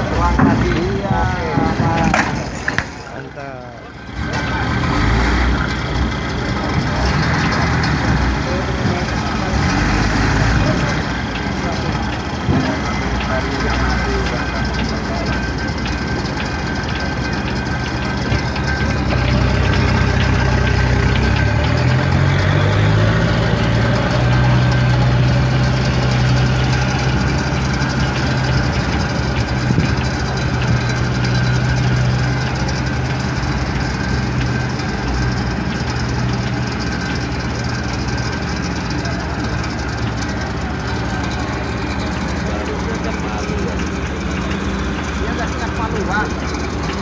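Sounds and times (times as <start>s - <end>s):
large engine droning: 0.0s - 47.0s.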